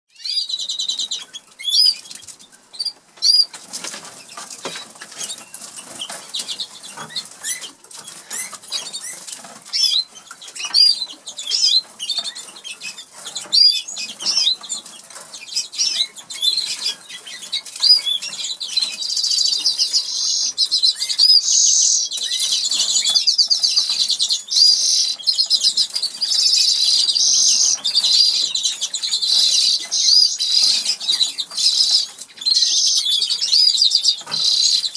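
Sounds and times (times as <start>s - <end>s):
canaries chirping: 0.1s - 34.9s
canary trilling song: 0.1s - 34.9s
clicks and rustles: 0.9s - 34.9s.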